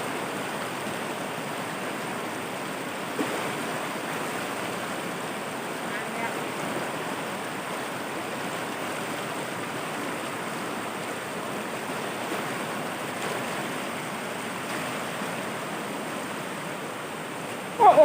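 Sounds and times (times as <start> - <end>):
water rushing over rocks: 0.0 - 18.0.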